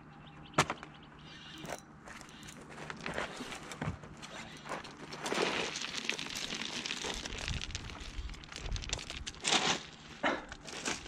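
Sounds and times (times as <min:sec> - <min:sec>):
footsteps on gravel: 0:01.6 - 0:11.0.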